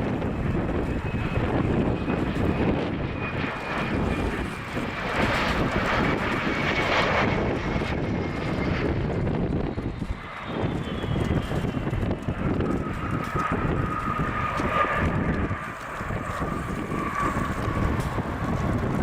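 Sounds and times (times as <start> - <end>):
jet engines whining: 0.0 - 19.0
wind rumble on microphone: 0.0 - 19.0.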